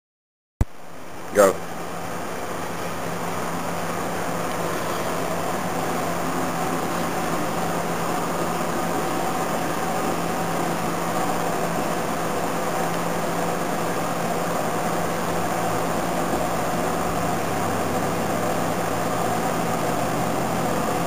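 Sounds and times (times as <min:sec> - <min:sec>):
steady mechanical hum with hiss: 0:00.7 - 0:21.0.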